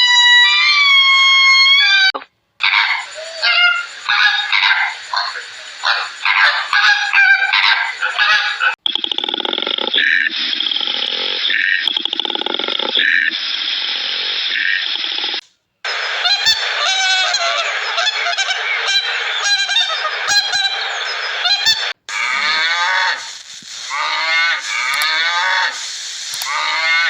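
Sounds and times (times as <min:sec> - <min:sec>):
animal calls: 0:00.0 - 0:15.4, 0:16.0 - 0:27.0.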